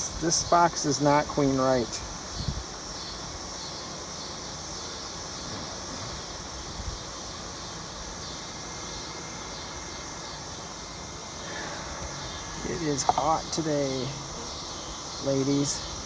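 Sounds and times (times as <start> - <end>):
high outdoor hiss: 0.0 - 16.0
honeybees buzzing: 0.0 - 16.0.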